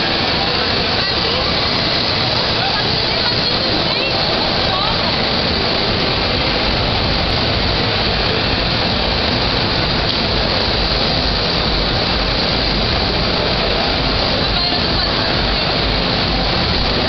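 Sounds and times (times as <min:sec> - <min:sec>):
crowded hall din: 0:00.0 - 0:17.0.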